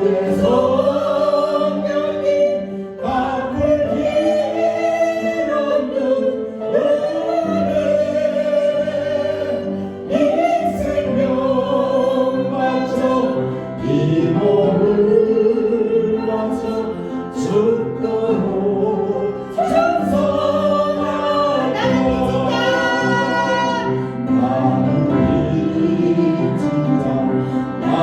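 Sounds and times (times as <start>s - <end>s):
congregation singing: 0.0s - 28.0s
steady musical accompaniment: 0.0s - 28.0s.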